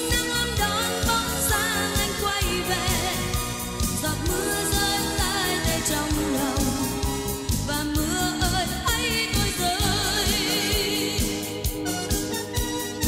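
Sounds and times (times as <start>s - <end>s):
woman singing pop ballad: 0.0s - 12.2s
band backing with steady beat: 0.0s - 13.0s.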